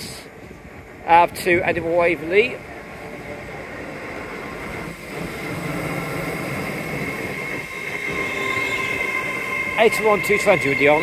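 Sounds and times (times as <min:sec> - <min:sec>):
steady high whine: 0:00.0 - 0:11.0
train rumble: 0:00.0 - 0:11.0.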